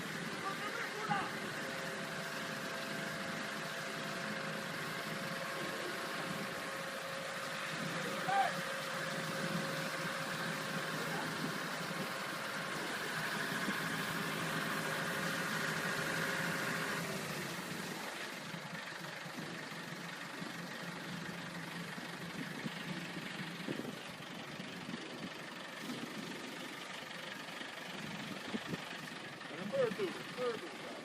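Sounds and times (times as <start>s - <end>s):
engine whine: 0.0s - 31.0s
sweeper truck engine running: 0.0s - 31.0s.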